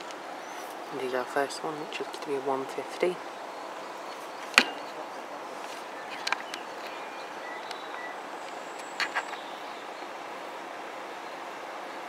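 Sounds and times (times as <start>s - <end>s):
outdoor ambience: 0.0s - 12.0s.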